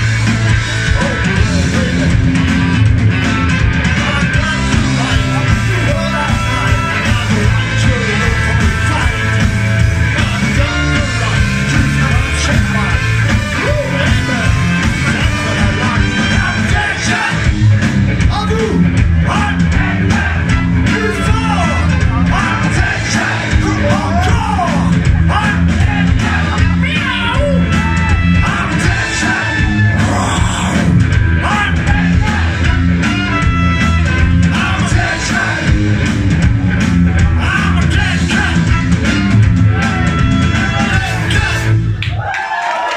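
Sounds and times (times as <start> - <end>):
electric guitar: 0.0 - 42.1
live rock band playing: 0.0 - 42.1
bass guitar: 0.0 - 42.4
drums: 0.0 - 42.9.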